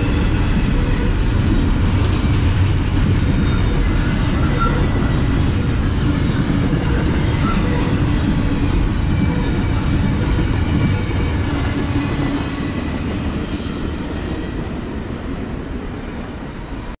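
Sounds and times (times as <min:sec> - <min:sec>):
train wheels rumbling and rattling: 0:00.0 - 0:16.8.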